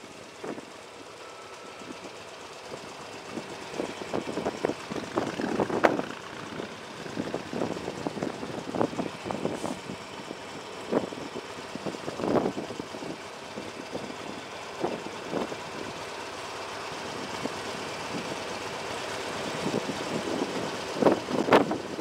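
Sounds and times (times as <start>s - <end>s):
engines idling in traffic: 0.0s - 22.0s.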